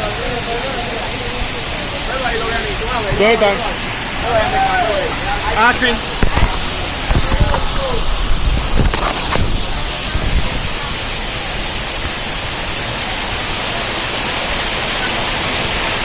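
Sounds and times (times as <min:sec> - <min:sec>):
heavy rain: 0:00.0 - 0:16.0
wind: 0:00.0 - 0:16.0.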